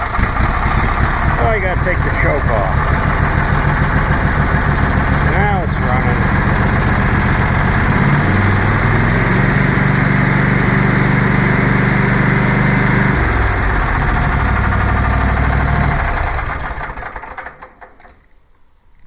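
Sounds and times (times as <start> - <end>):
lawn tractor engine running: 0.0 - 18.3.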